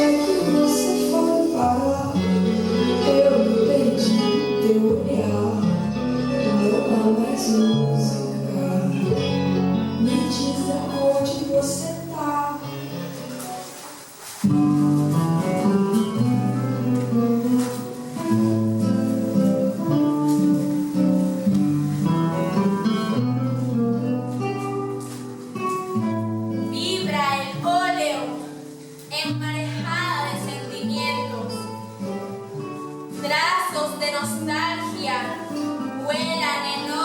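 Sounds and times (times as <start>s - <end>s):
instrumental guitar music: 0.0s - 37.0s.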